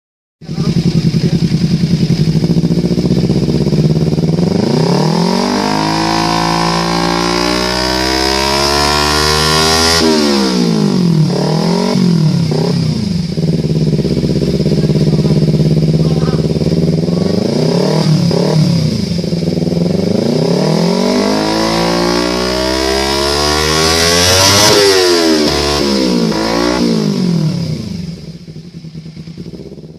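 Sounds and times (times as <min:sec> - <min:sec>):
motorcycle engine revving: 0:00.4 - 0:29.9.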